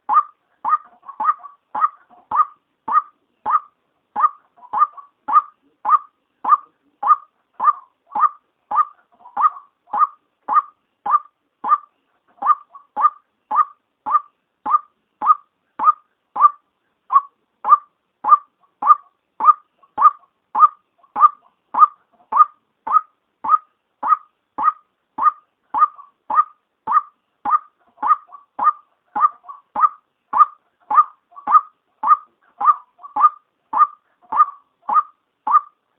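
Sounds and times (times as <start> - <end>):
waterhen calling sharp notes: 0.0 - 35.8.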